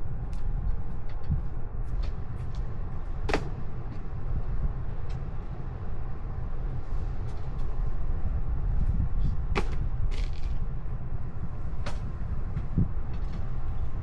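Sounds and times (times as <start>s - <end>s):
vehicle road noise rumble: 0.0s - 14.0s.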